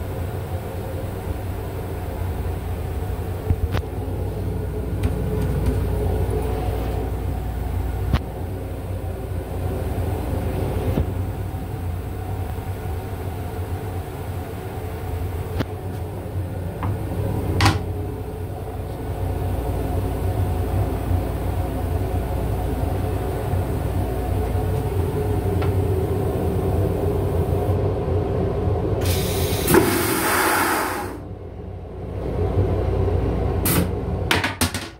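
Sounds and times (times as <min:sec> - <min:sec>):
railcar rumble: 0:00.0 - 0:34.9.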